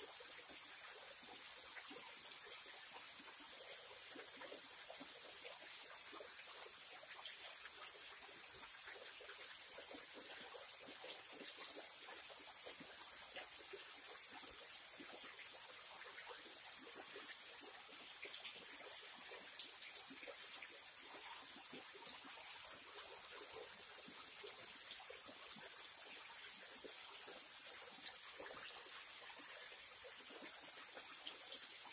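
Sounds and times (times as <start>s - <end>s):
small waterfall splashing: 0.0s - 31.9s
water drips: 0.0s - 31.9s.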